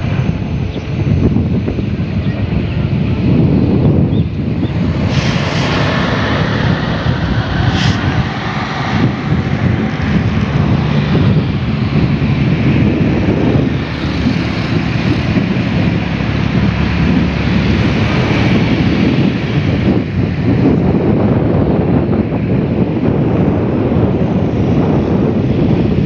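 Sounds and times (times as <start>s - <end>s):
excavator diesel engines droning: 0.0s - 26.0s
wind on microphone: 0.0s - 26.0s.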